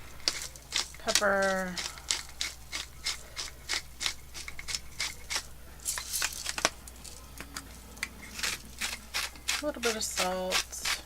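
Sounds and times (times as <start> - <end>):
pepper mill grinding: 0.0 - 11.0.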